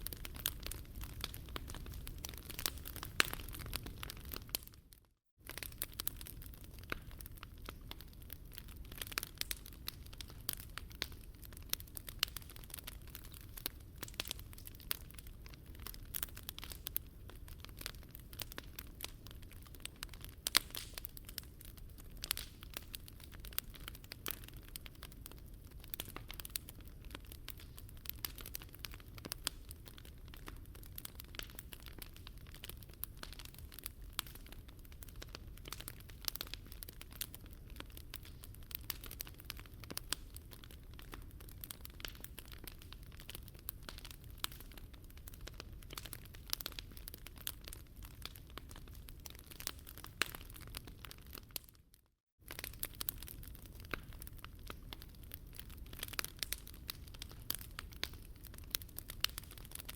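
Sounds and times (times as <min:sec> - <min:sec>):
low rumble of flames: 0:00.0 - 0:04.8, 0:05.4 - 0:51.6, 0:52.4 - 0:59.9
wood fire crackling and popping: 0:00.0 - 0:59.9.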